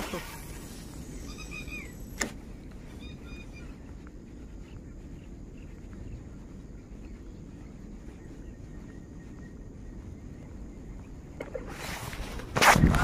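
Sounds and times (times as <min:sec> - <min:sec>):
faint chirps: 0:00.0 - 0:11.4
steady low rumble: 0:00.0 - 0:13.0.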